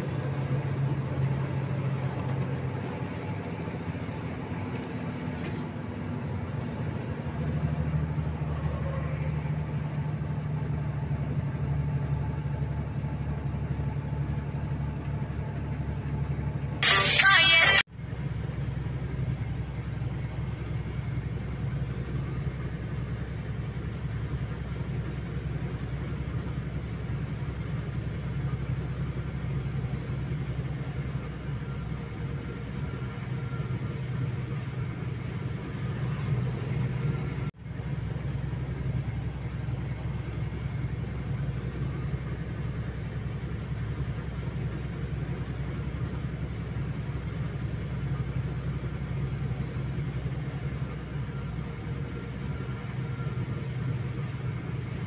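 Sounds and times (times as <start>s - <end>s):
road noise: 0.0s - 55.0s
truck engine rumble: 0.0s - 55.0s.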